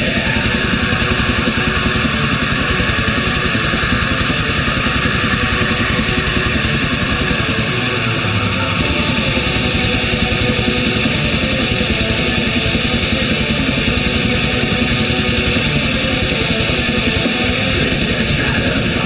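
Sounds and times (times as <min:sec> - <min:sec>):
distorted electric guitars: 0:00.0 - 0:19.0
fast dense drumming: 0:00.0 - 0:19.0.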